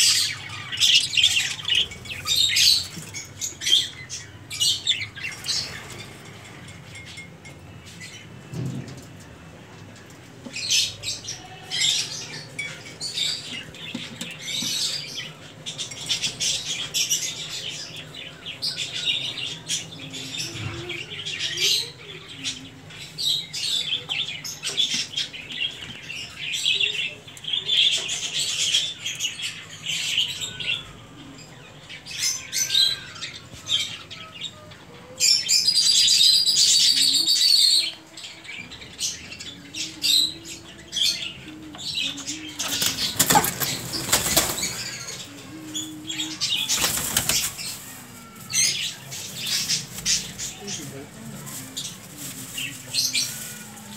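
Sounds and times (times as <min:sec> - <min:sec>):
birds chirping and chattering: 0:00.0 - 0:53.9.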